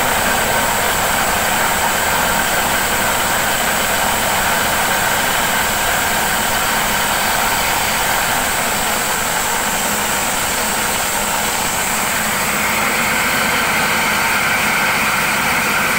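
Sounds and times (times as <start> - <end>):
feed chopping machine running: 0.0 - 15.9.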